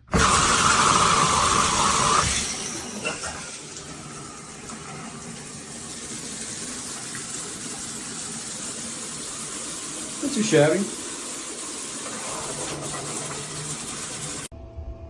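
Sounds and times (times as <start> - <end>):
shower water spraying: 0.0 - 14.5.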